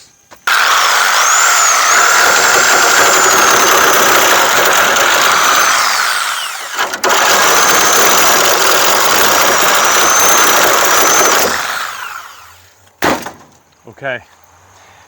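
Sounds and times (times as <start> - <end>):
power tool cutting sheet metal: 0.5 - 12.6.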